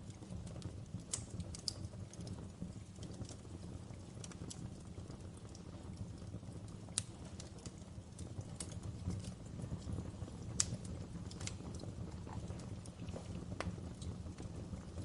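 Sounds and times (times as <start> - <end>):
low rumble of flames: 0.0 - 15.0
wood fire crackling: 0.0 - 15.0
sharp pops and snaps: 0.1 - 15.0.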